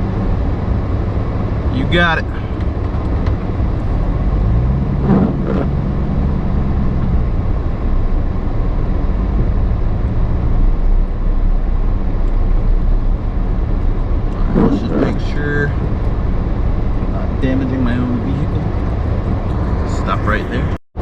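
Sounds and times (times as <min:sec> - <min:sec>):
pickup engine rumbling: 0:00.0 - 0:21.0.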